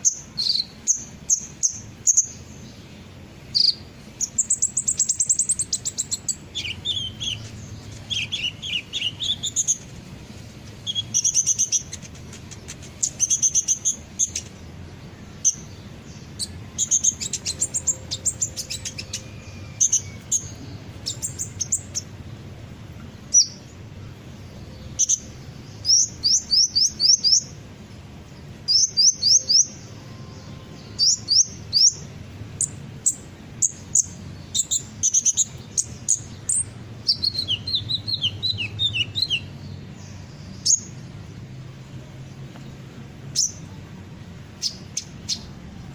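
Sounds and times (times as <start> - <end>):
bird chirps and trills: 0.0 - 45.9.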